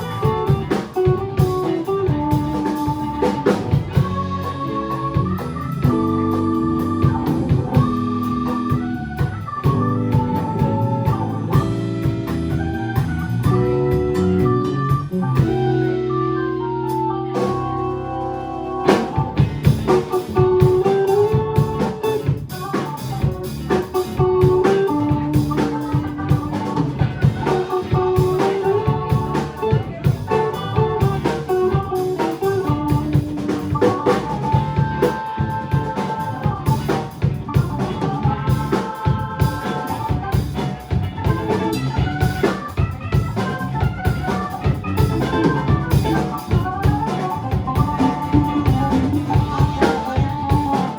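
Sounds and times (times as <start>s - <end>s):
drum kit beat: 0.0s - 50.9s
electric guitar: 0.0s - 50.9s
held keyboard notes: 0.0s - 50.9s.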